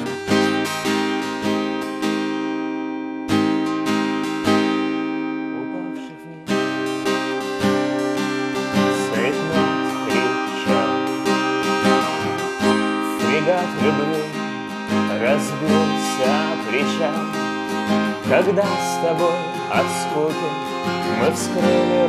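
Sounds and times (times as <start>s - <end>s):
person singing: 0.0s - 1.8s, 5.5s - 22.0s
acoustic guitar strumming: 0.0s - 22.0s.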